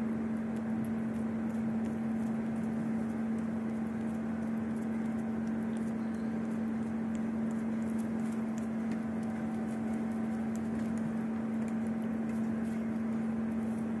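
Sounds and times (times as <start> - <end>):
cat licking and chewing: 0.0 - 14.0
steady low hum: 0.0 - 14.0.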